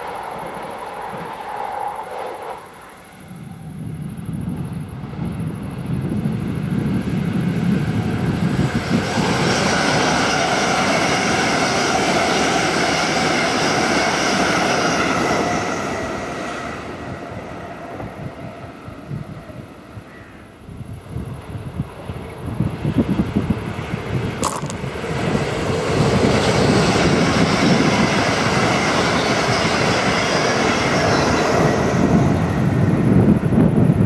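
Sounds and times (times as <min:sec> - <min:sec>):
train passing at speed: 0:00.0 - 0:34.0.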